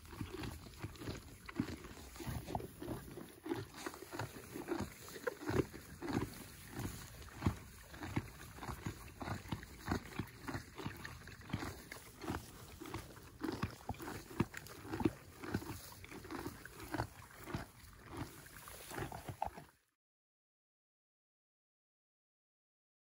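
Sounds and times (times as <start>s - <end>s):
ponies munching hay: 0.0s - 19.7s.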